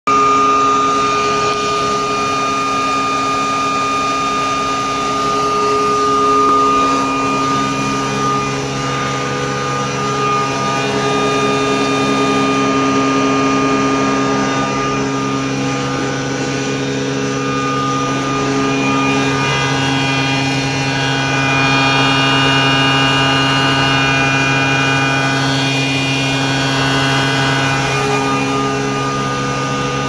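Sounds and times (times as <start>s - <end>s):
grinding mill whining: 0.1s - 30.0s.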